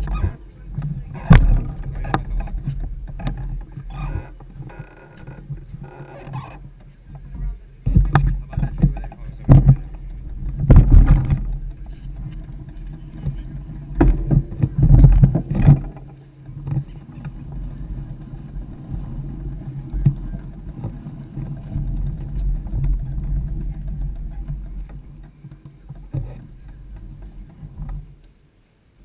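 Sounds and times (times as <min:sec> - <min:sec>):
bike knocking and rattling: 0:00.0 - 0:28.4
bicycle rolling rumble: 0:00.0 - 0:29.0.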